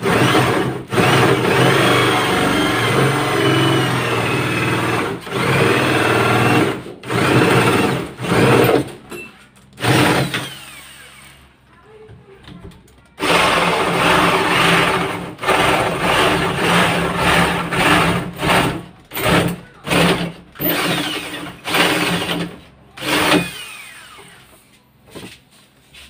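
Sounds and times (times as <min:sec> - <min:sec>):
electric drill cutting wood: 0:00.0 - 0:08.8, 0:09.8 - 0:11.5, 0:13.2 - 0:24.6.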